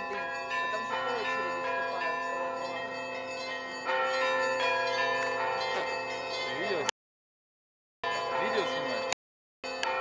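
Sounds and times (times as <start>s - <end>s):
church bells ringing: 0.0s - 6.9s, 8.0s - 10.0s.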